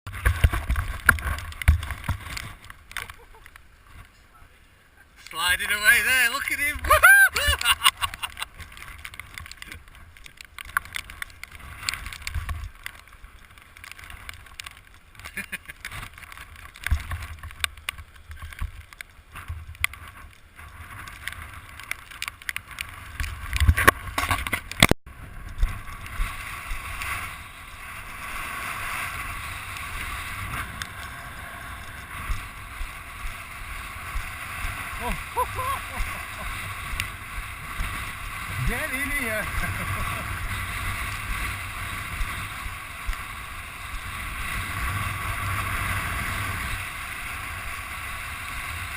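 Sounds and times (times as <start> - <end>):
rushing sea water: 5.4 - 48.9.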